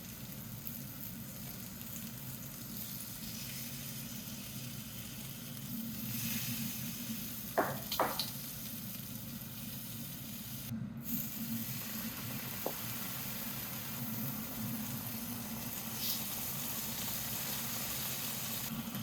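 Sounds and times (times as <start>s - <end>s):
food sizzling in pan: 0.0s - 19.0s.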